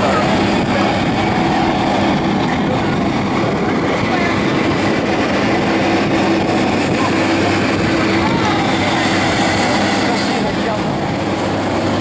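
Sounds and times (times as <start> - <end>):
jet engine rumbling: 0.0 - 12.0.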